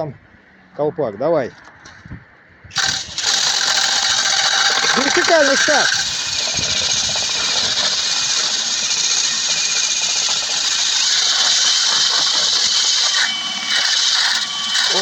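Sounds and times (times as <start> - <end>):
chimney brush motor whine: 2.7 - 15.0.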